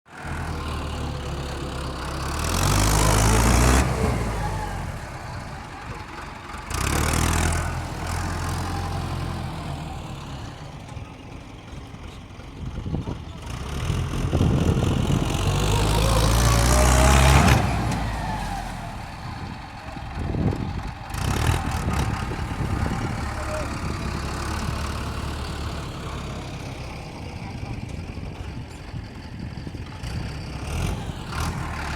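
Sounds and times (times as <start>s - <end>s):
tractor diesel engine revving: 0.1s - 31.9s.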